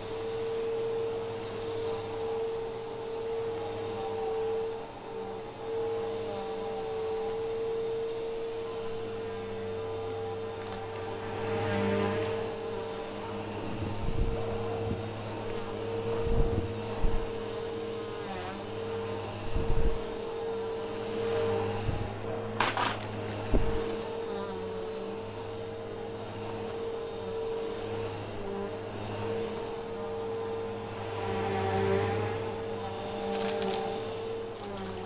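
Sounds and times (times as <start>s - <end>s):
vacuum cleaner motor whine: 0.0s - 35.0s.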